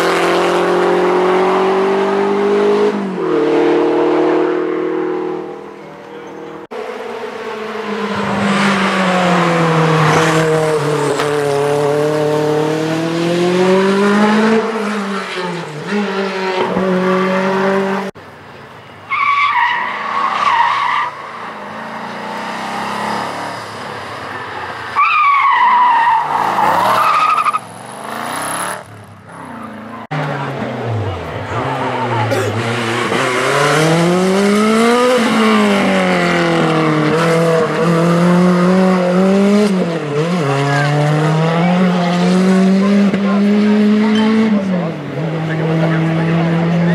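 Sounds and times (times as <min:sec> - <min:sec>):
rally car engine revving: 0:00.0 - 0:18.2, 0:25.8 - 0:46.9.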